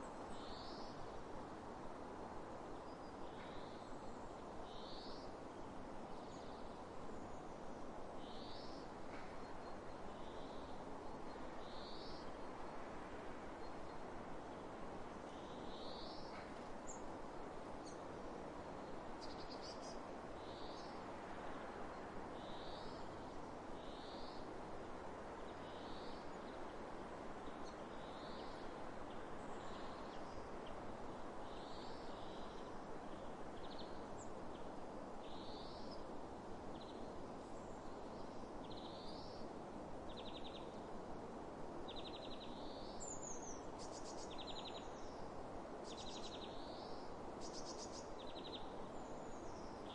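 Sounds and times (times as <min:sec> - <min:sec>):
wind over open fields: 0:00.0 - 0:49.9.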